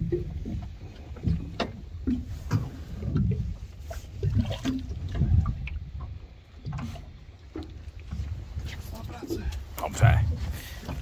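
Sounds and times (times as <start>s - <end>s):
water splashing against boat hull: 0.0s - 11.0s.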